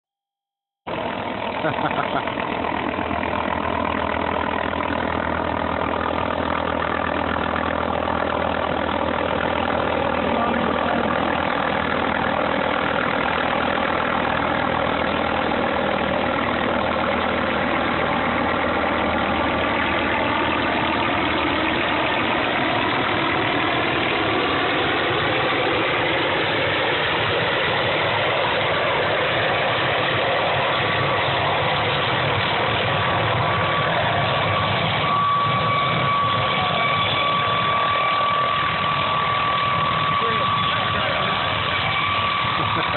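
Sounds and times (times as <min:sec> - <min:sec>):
helicopter turbine and rotor: 0:00.8 - 0:42.9.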